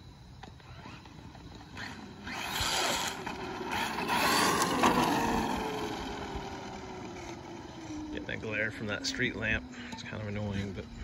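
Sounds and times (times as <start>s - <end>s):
rc truck motor whine: 0.0s - 11.0s.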